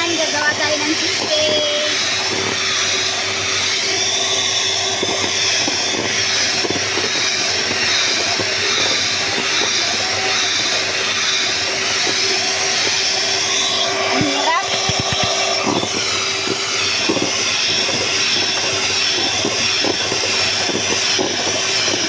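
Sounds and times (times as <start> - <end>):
electric hand mixer whipping cream: 0.0 - 22.0.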